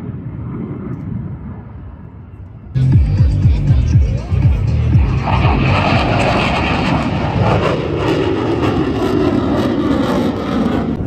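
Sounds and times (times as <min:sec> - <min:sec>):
jet aircraft flying past: 0:00.0 - 0:02.7, 0:04.2 - 0:11.0.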